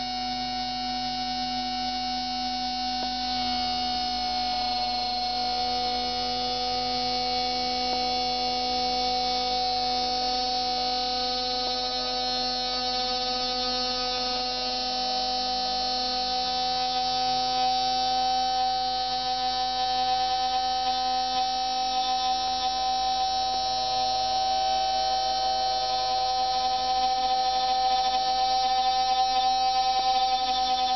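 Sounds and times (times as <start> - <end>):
lathe motor humming and whining: 0.0 - 30.9.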